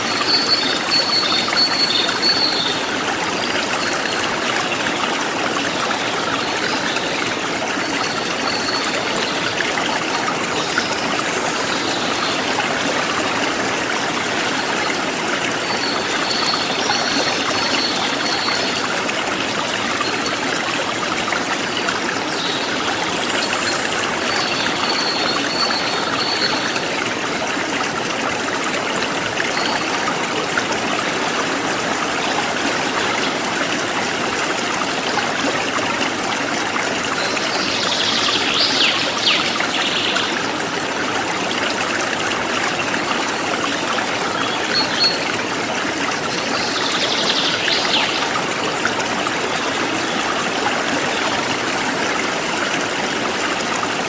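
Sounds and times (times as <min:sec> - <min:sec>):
forest stream flowing: 0:00.0 - 0:54.0.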